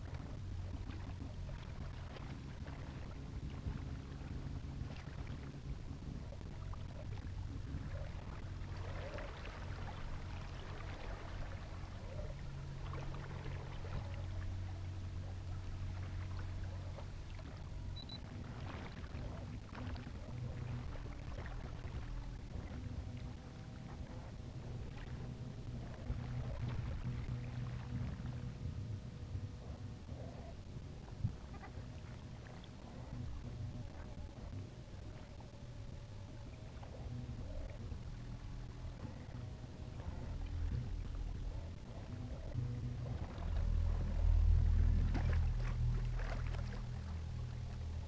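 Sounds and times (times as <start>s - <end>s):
water lapping along hull: 0.0s - 48.0s.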